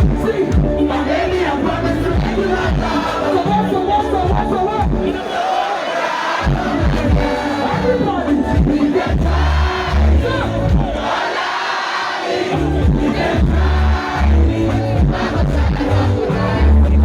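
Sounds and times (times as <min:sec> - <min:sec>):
amplified band music: 0:00.0 - 0:05.6, 0:06.2 - 0:11.6, 0:12.3 - 0:17.0
crowd singing and shouting: 0:00.0 - 0:17.0.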